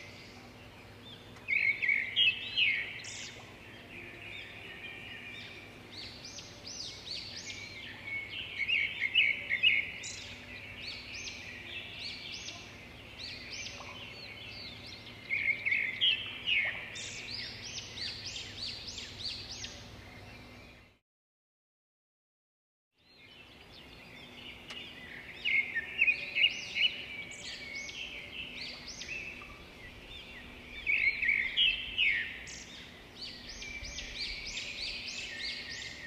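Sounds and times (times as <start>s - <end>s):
birds chirping and singing: 0.0s - 21.0s, 23.0s - 36.0s.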